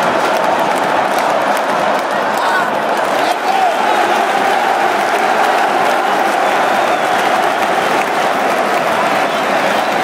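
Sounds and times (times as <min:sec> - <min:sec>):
stadium crowd cheering and shouting: 0:00.0 - 0:10.0.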